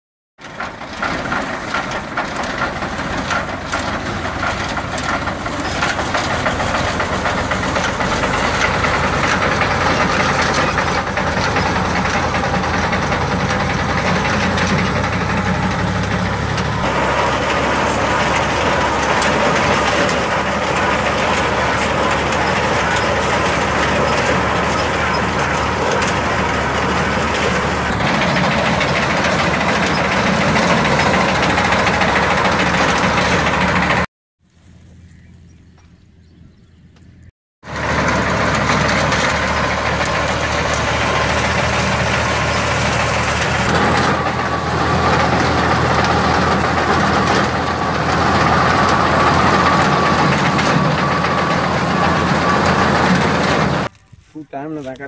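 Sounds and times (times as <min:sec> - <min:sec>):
reaper machinery: 0:00.4 - 0:34.1, 0:37.6 - 0:55.0
tractor diesel engine running: 0:00.4 - 0:55.0.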